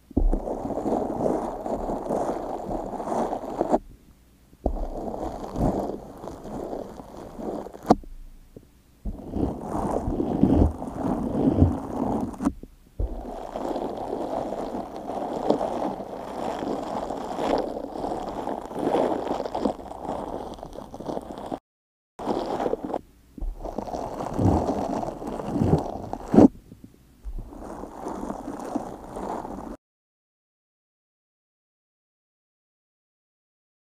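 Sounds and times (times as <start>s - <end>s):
slime squelching under a brush: 0.0s - 21.6s, 22.2s - 29.8s.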